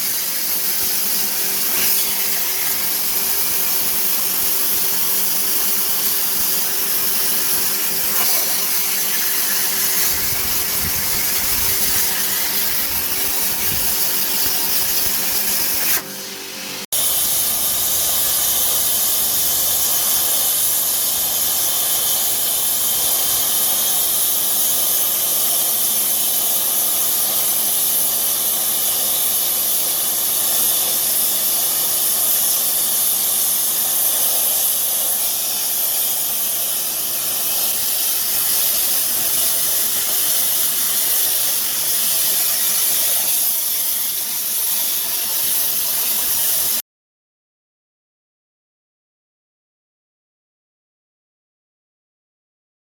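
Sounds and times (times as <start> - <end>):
plasma cutter hissing: 0.0 - 46.8.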